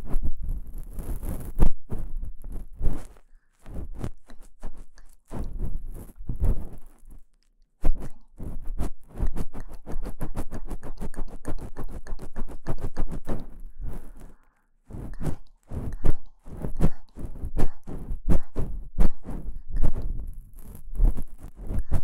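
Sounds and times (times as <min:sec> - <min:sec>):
ear pick scraping microphone: 0:00.0 - 0:07.2, 0:07.8 - 0:22.0.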